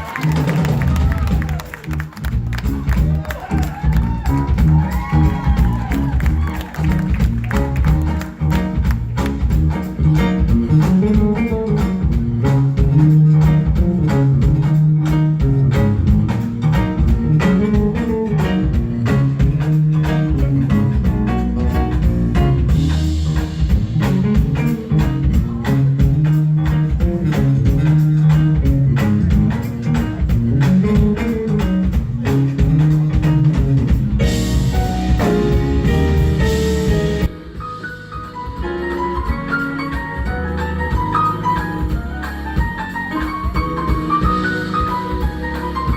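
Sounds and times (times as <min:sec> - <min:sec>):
drum kit beat: 0:00.0 - 0:45.9
electric bass line: 0:00.0 - 0:45.9
guitar: 0:00.0 - 0:45.9
jazz band playing: 0:00.0 - 0:45.9.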